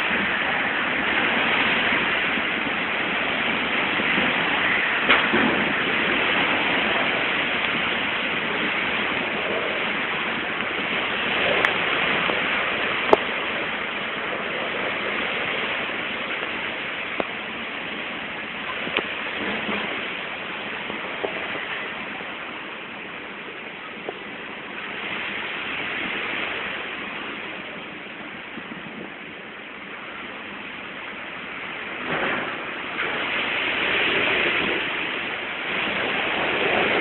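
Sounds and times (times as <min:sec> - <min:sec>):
heavy rain pouring: 0:00.0 - 0:37.0
raindrops tapping: 0:00.0 - 0:37.0.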